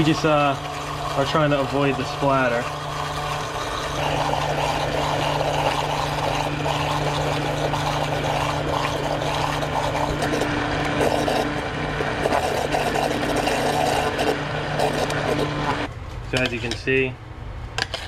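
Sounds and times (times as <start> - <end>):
sauce churning: 0.0 - 15.9
stick blender motor hum: 0.0 - 15.9.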